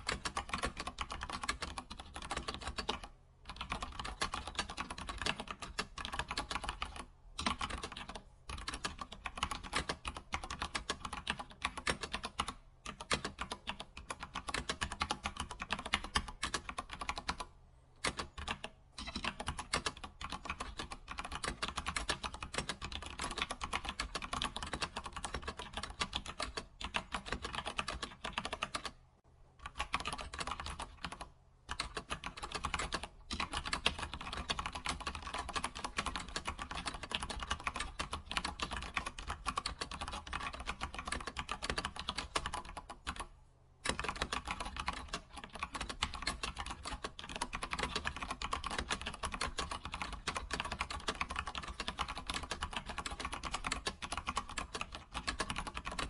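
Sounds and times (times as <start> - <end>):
computer keyboard typing: 0.0 - 29.0, 29.6 - 56.0.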